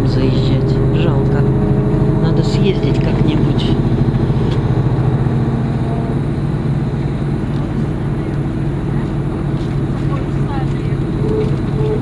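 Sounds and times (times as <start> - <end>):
bus engine running: 0.0 - 12.0
tyre and road noise: 0.0 - 12.0.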